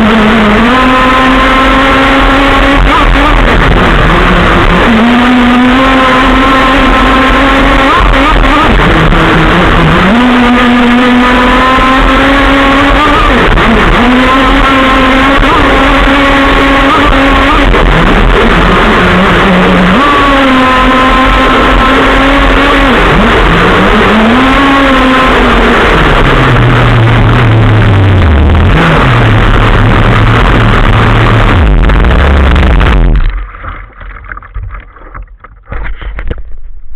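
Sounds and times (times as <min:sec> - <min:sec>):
model engine revving: 0:00.0 - 0:33.4.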